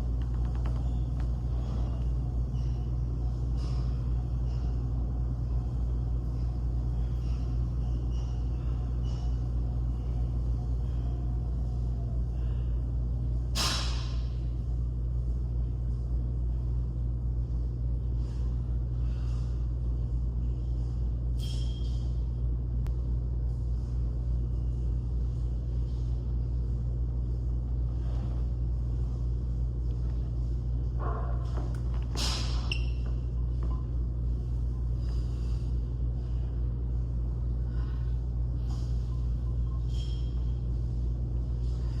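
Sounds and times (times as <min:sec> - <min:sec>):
gym room rumble: 0:00.0 - 0:42.0.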